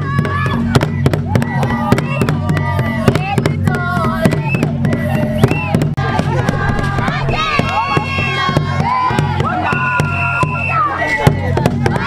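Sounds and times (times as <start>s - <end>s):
women singing: 1.5s - 10.0s, 10.8s - 12.0s.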